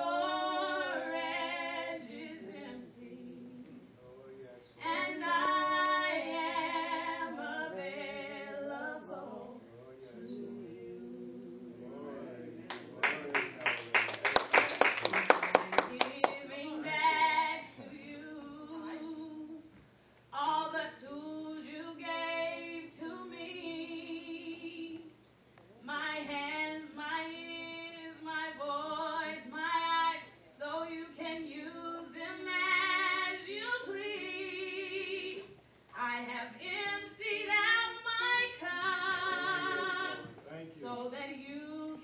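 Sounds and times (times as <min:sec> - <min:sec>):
woman singing gospel song: 0:00.0 - 0:03.9, 0:04.8 - 0:09.6, 0:15.6 - 0:19.7, 0:20.3 - 0:25.2, 0:25.8 - 0:42.0.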